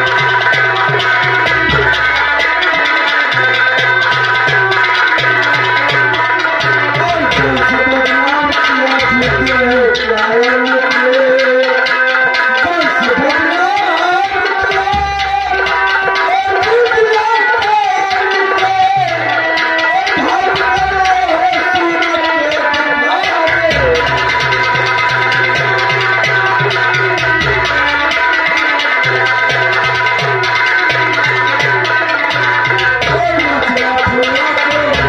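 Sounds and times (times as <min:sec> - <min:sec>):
hand drums beating: 0:00.0 - 0:35.0
held notes: 0:00.0 - 0:35.0
wavering melody: 0:00.0 - 0:35.0.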